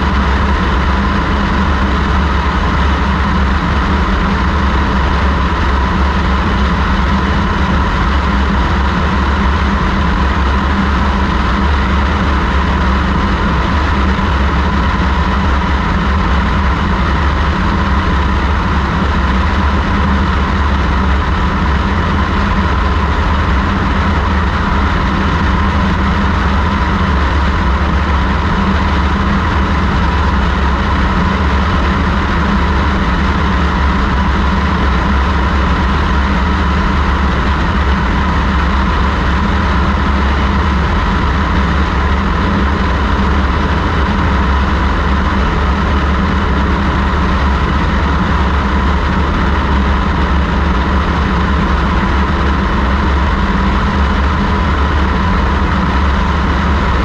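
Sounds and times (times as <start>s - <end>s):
aircraft engine and propeller drone: 0.0s - 57.0s
heavy wind rush: 0.0s - 57.0s.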